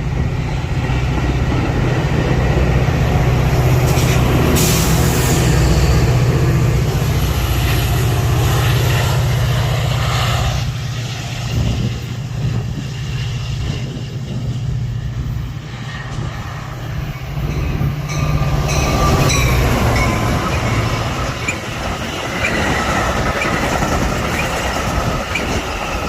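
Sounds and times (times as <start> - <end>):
diesel locomotive engine droning: 0.0 - 26.0
train rushing noise: 0.0 - 26.0.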